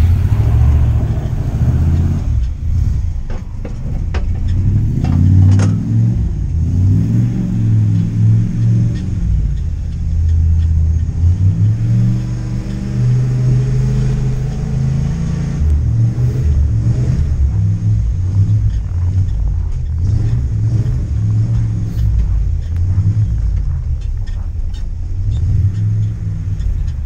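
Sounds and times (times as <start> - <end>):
pickup engine revving: 0.0 - 27.0.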